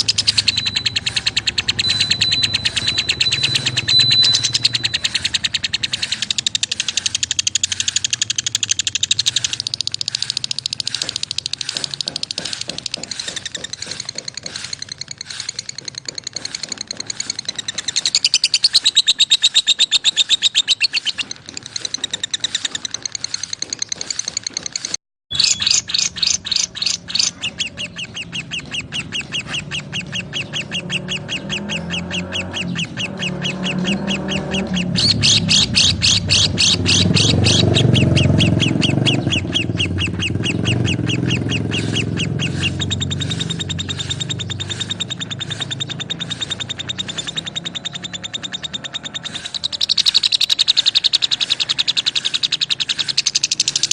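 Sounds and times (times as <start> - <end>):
lovebirds chattering: 0.0 - 53.9.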